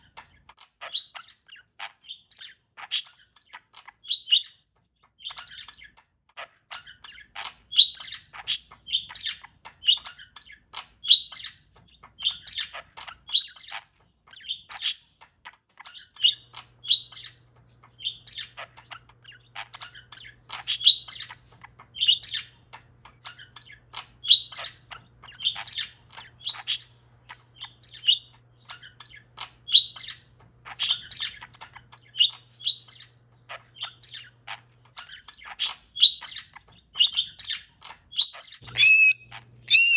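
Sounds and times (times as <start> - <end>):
parakeet chirping: 0.0 - 39.9.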